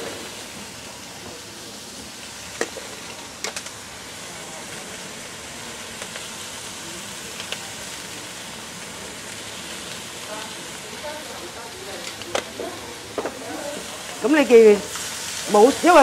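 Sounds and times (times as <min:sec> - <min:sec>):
vegetables sizzling in wok: 0:00.0 - 0:16.0.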